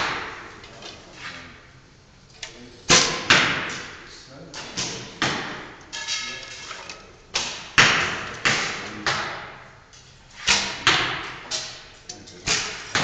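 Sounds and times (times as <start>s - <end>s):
arrows striking targets: 0.0s - 1.5s, 2.9s - 13.0s.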